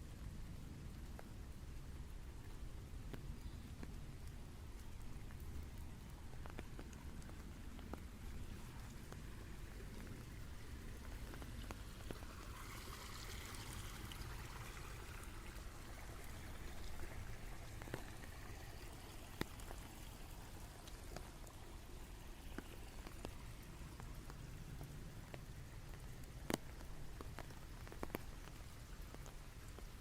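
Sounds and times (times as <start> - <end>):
rain hiss: 0.0 - 30.0
raindrops ticking: 0.0 - 30.0.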